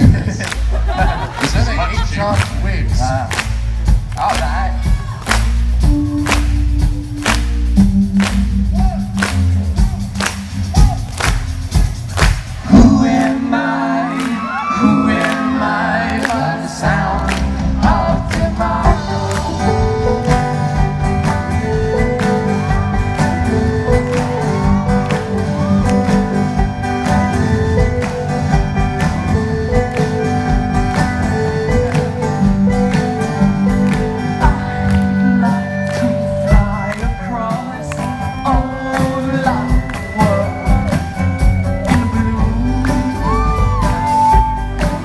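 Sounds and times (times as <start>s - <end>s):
live band playing: 0.0s - 45.0s.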